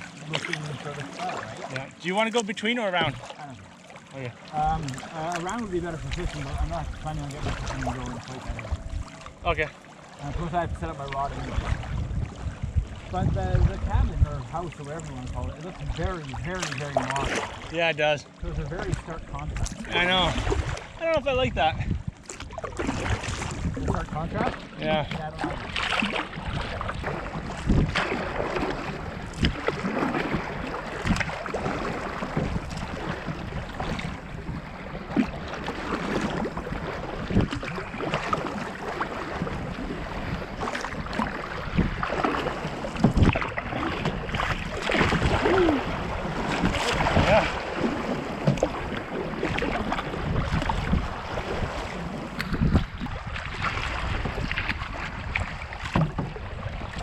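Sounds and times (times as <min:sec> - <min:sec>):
paddle strokes: 0:00.0 - 0:12.4, 0:14.5 - 0:21.2, 0:21.9 - 0:57.0
water slapping against hull: 0:00.0 - 0:57.0
wind on microphone: 0:04.6 - 0:17.7, 0:18.4 - 0:57.0.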